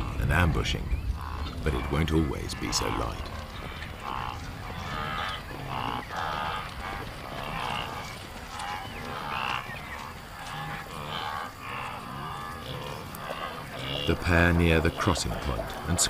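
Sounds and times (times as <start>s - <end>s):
wildebeest honking grunts: 1.2s - 16.0s.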